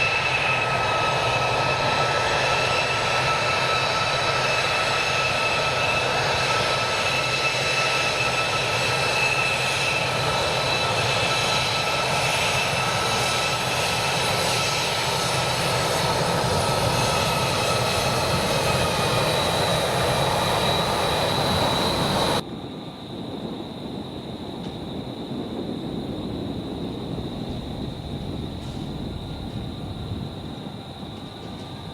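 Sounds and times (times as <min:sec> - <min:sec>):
jet engines running: 0:00.0 - 0:22.4, 0:24.6 - 0:31.9.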